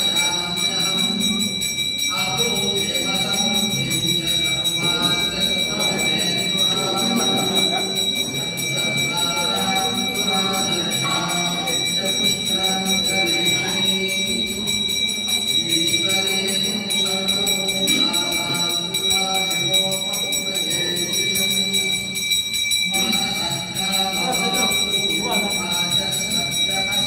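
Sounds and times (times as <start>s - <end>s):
temple bell ringing: 0.0s - 27.0s.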